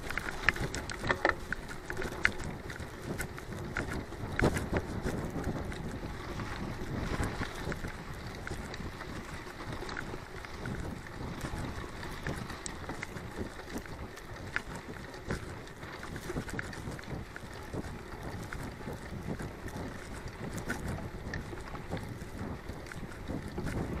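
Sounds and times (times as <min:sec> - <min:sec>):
bike tyres rumbling on dirt: 0:00.0 - 0:24.0
small clicks and rattles: 0:00.0 - 0:24.0
wind buffeting microphone: 0:00.0 - 0:24.0.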